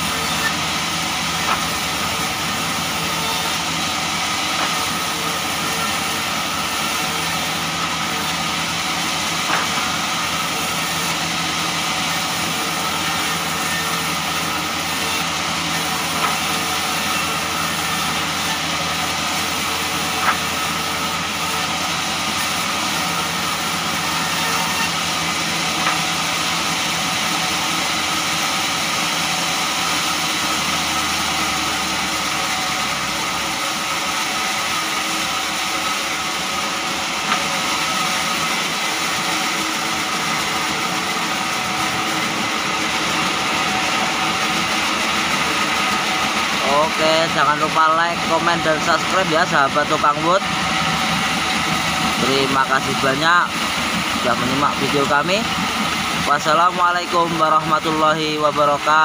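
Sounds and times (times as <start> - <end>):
band saw running: 0.0 - 59.0.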